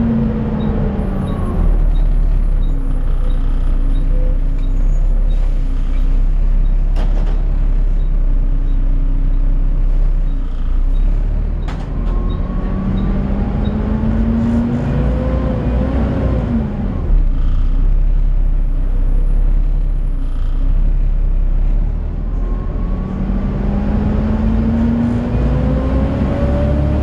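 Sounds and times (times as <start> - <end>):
bus diesel engine idling: 0.0 - 13.4, 16.6 - 25.6
rising whine of bus pulling forward: 0.0 - 17.8, 18.4 - 27.0.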